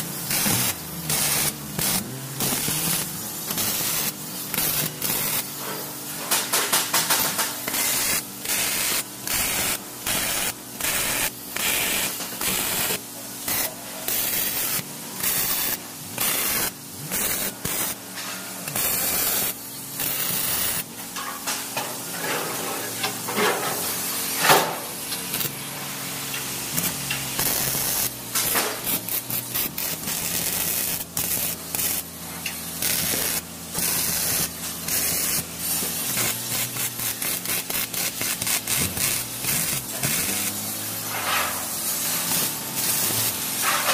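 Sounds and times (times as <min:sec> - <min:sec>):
welding arc crackling and hissing: 0:00.0 - 0:43.9.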